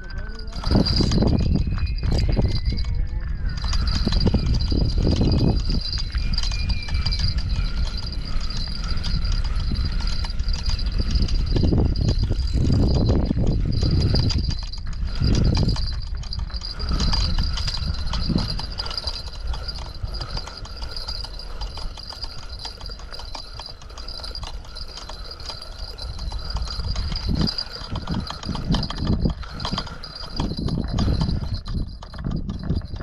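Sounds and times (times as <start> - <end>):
fishing reel clicking: 2.3 - 32.8.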